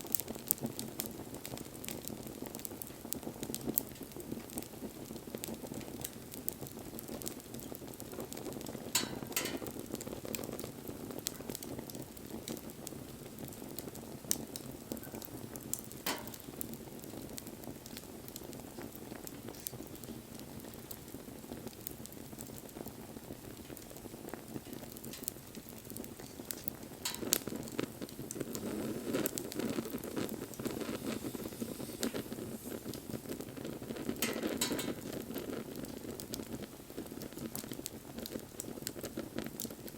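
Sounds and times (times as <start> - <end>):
burning wood crackling and popping: 0.0 - 39.9
rush of bonfire flames: 0.0 - 39.9.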